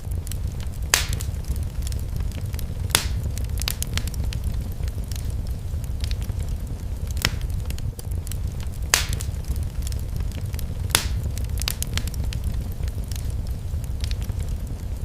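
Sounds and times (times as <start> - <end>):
low rumble: 0.0 - 15.0
sharp pops from fire: 0.0 - 15.0
wood fire crackling: 0.0 - 15.0.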